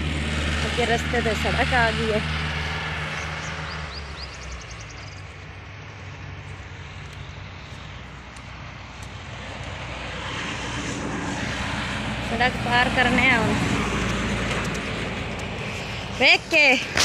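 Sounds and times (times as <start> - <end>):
steady road noise: 0.0 - 17.0
vehicle approaching: 0.0 - 17.0
vehicle engine hum: 0.0 - 17.0.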